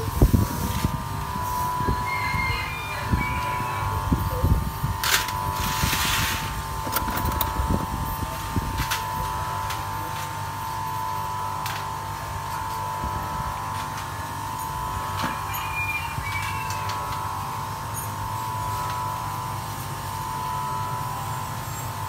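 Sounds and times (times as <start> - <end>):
high hum: 0.0 - 22.0.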